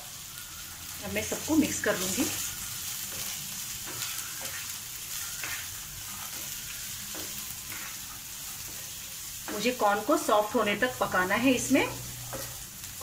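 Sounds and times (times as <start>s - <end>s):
vegetables sizzling in hot oil: 0.0s - 13.0s
wooden spatula scraping pan: 1.2s - 12.7s.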